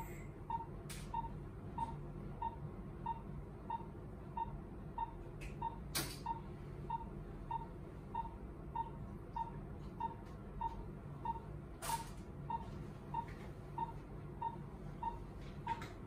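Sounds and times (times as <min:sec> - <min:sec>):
pulse monitor beeping: 0:00.0 - 0:15.8.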